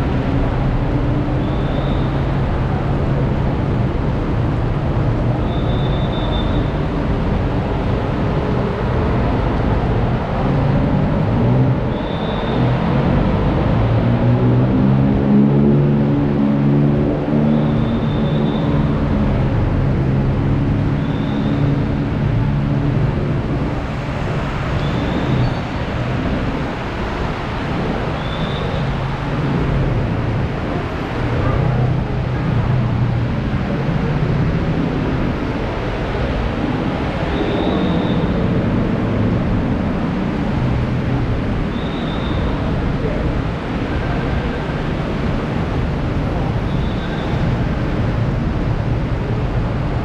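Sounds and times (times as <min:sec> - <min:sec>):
vehicle engine hum: 0:00.0 - 0:50.0
heavy rain: 0:06.5 - 0:50.0.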